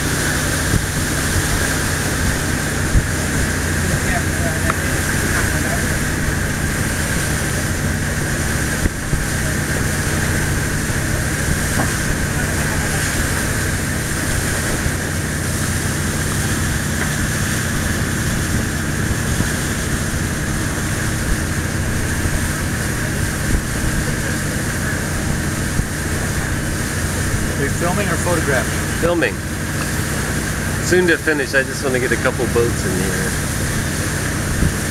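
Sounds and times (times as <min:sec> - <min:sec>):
boat engine drone: 0:00.0 - 0:34.9
water rushing: 0:00.0 - 0:34.9.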